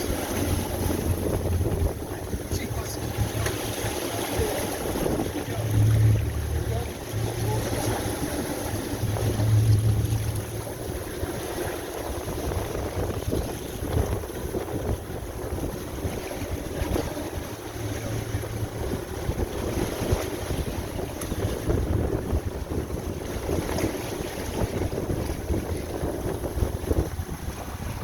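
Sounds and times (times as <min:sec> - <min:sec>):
low rumble: 0:00.0 - 0:28.0
water washing around boat: 0:00.0 - 0:28.0
wind buffeting microphone: 0:00.0 - 0:28.0.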